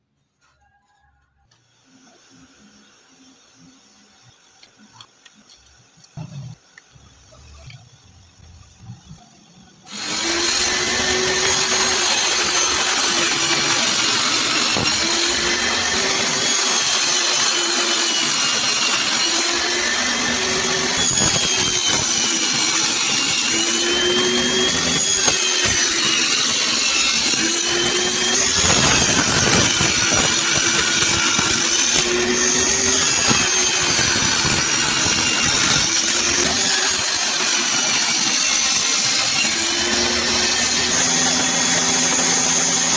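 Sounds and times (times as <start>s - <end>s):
table saw cutting wood: 1.5s - 42.9s.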